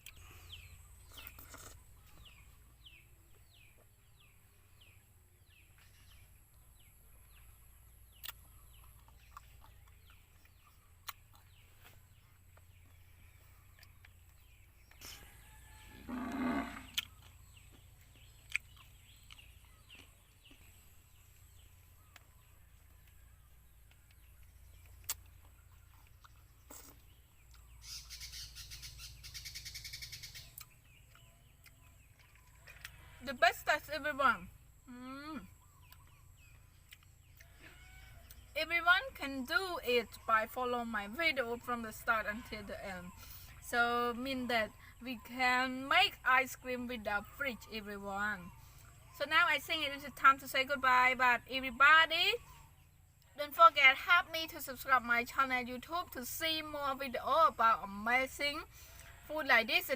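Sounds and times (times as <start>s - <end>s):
bird chirps: 0.0s - 59.9s.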